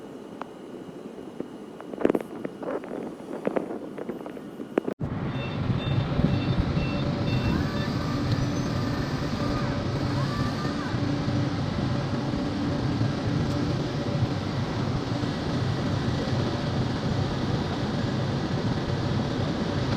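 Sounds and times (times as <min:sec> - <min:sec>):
heavy machinery pulsing hum: 0:00.0 - 0:19.9.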